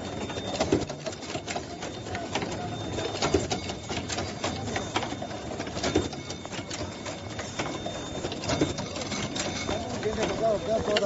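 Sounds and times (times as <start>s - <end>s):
constant machine hum: 0.0s - 11.0s
production line clattering: 0.0s - 11.0s.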